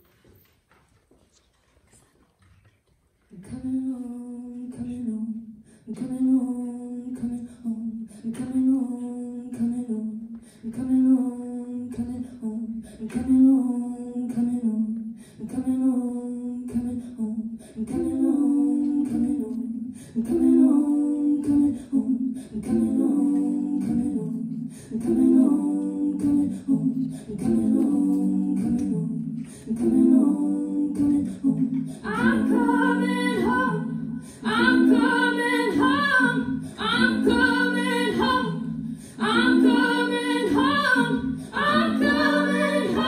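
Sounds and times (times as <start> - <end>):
higher layered vocal part: 3.3 - 43.0.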